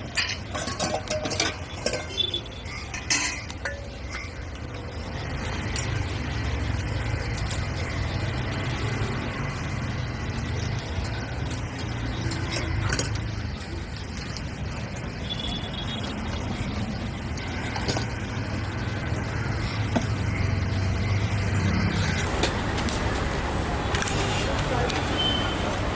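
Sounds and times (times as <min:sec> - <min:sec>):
vehicle engine rumble: 0:00.0 - 0:25.9.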